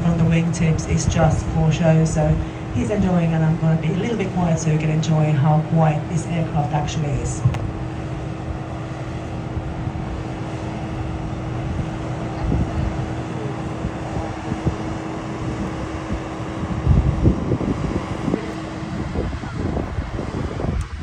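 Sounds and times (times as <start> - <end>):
steady low hum: 0.0 - 21.0
wind gusts on microphone: 0.0 - 21.0.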